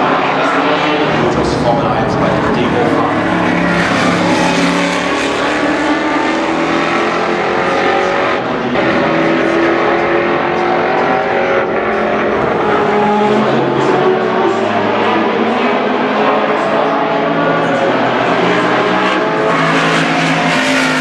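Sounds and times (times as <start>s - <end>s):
racing engine at full throttle: 0.0s - 21.0s.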